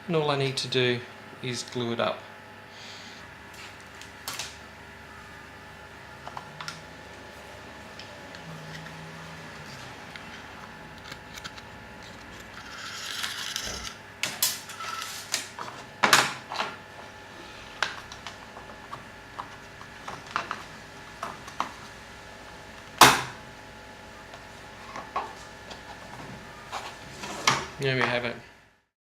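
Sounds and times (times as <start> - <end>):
faint steady hum: 0.0 - 28.9.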